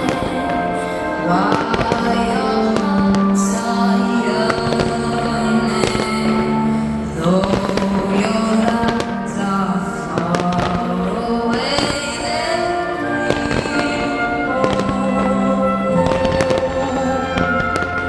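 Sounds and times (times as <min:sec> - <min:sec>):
fireworks bangs and crackles: 0:00.0 - 0:06.5, 0:07.2 - 0:18.0
loud music with held notes: 0:00.0 - 0:18.0.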